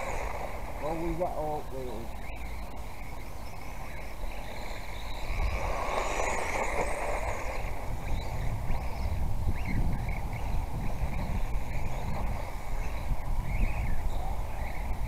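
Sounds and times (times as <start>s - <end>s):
electric toy car whine: 0.0s - 1.3s, 2.2s - 15.0s.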